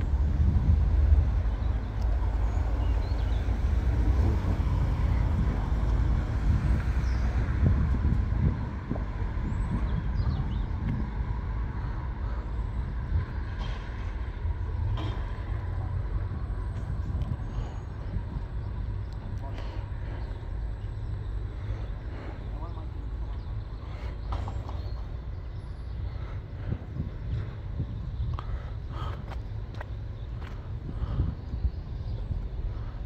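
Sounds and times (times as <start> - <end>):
train diesel engines rumbling: 0.0 - 33.0.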